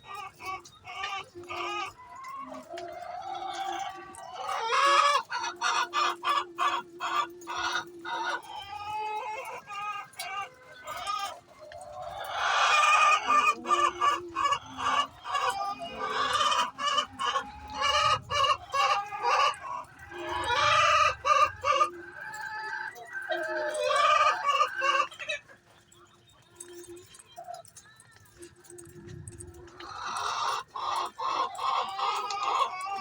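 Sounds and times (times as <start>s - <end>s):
hen cackling: 0.0s - 25.5s, 29.5s - 33.0s
hen clucking: 0.0s - 25.6s, 28.5s - 33.0s.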